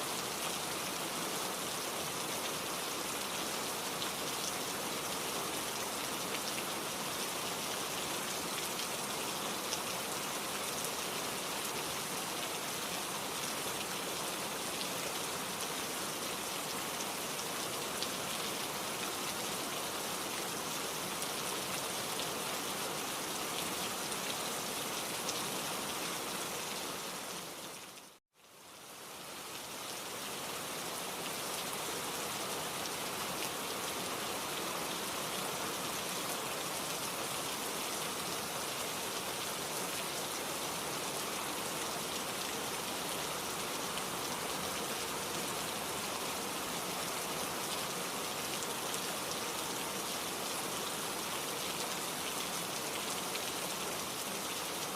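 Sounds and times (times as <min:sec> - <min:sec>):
dense rain hiss: 0:00.0 - 0:54.9.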